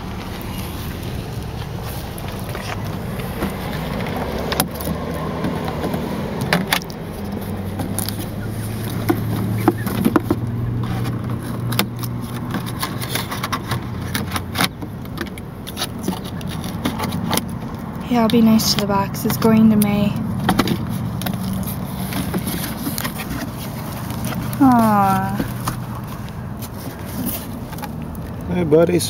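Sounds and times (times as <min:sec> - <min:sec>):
sharp clicks and crackles: 0:00.0 - 0:28.5
low car hum: 0:00.0 - 0:29.0.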